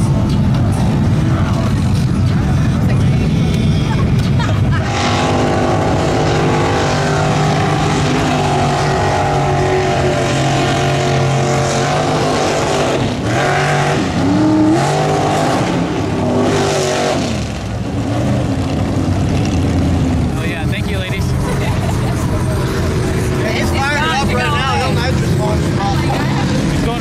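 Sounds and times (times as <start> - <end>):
truck engine revving hard: 0.0 - 27.0
tyres churning mud and water: 0.0 - 27.0.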